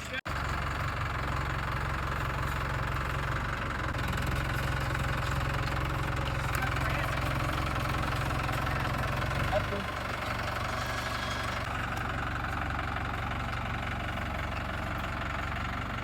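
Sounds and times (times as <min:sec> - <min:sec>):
loader engine running: 0:00.0 - 0:16.0.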